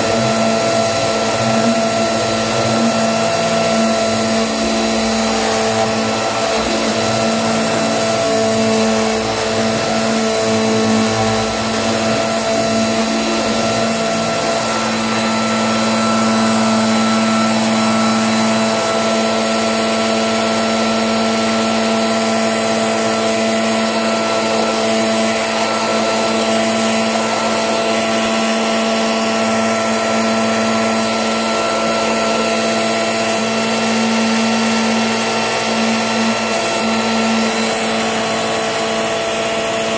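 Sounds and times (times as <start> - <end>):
electric motor humming and whining: 0.0 - 39.9.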